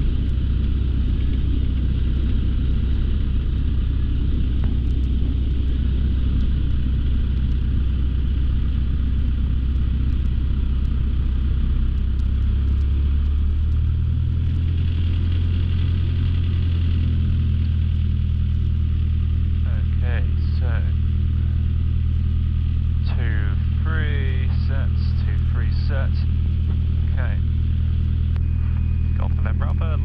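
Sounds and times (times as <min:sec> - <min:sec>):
light aircraft piston engine: 0:00.0 - 0:30.0.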